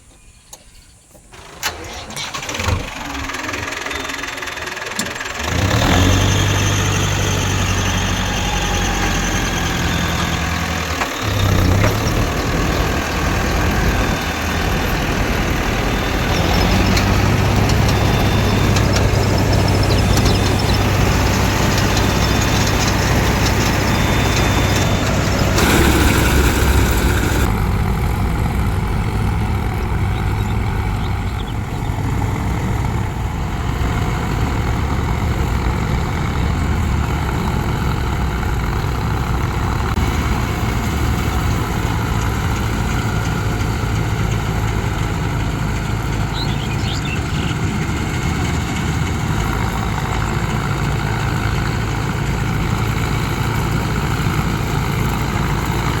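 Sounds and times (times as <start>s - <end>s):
diesel engine running: 1.1s - 56.0s.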